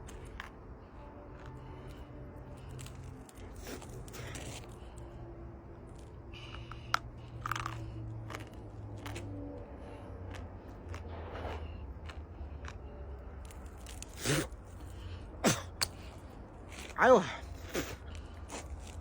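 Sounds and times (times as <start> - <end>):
earth being bitten and chewed: 0.0 - 19.0.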